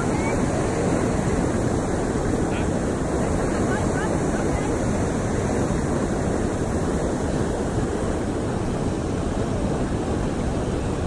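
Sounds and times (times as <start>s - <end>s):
river water flowing: 0.0s - 11.0s
wind buffeting microphone: 0.0s - 11.0s.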